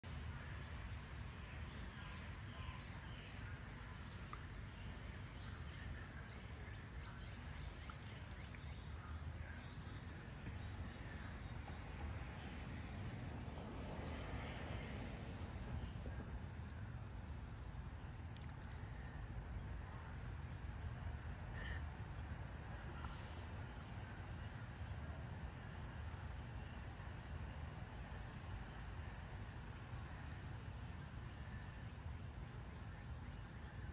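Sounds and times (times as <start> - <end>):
insect chirping: 0.0 - 33.9
low background rumble: 0.0 - 33.9.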